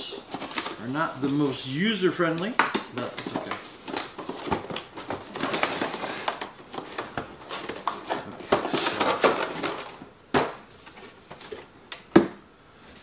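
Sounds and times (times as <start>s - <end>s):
cardboard and plastic rustling: 0.0s - 1.6s, 2.4s - 12.3s.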